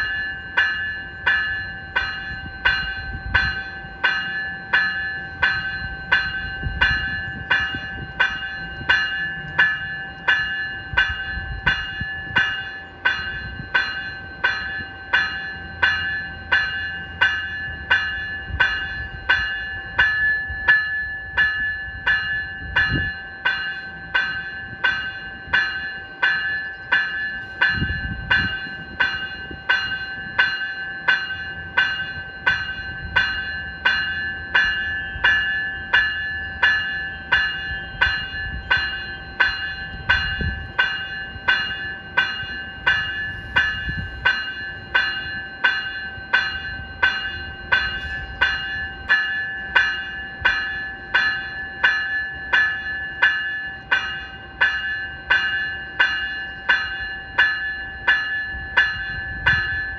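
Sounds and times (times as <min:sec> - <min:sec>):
electronic bell ringing: 0:00.0 - 0:59.9.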